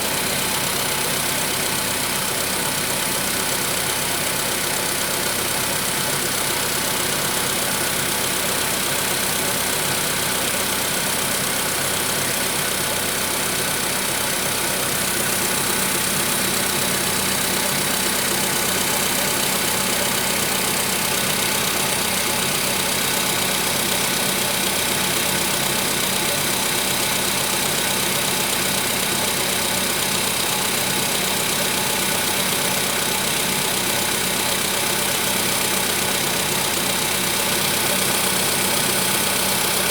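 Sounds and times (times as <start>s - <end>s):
car engine running: 0.0s - 39.9s
engine knock: 0.0s - 39.9s.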